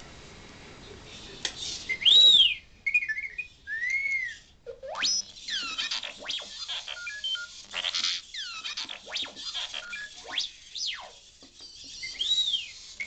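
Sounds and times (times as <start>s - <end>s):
robot beeps and whistles: 1.9s - 13.0s.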